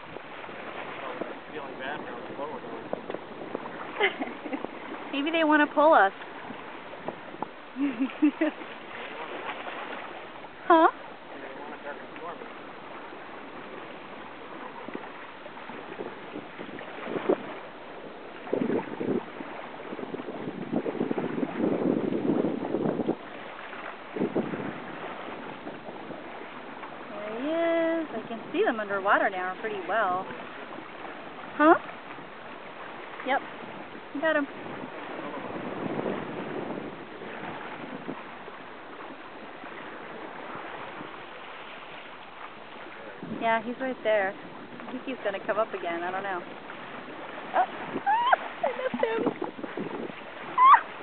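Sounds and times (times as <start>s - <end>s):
water splashing: 0.0s - 22.2s, 22.8s - 51.0s
water lapping against boat hull: 0.0s - 51.0s
wind on microphone: 0.0s - 51.0s.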